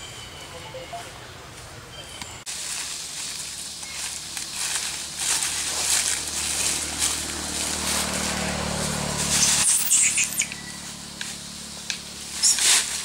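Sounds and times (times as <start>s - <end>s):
dry leaves rustling and crackling: 0.4s - 13.0s.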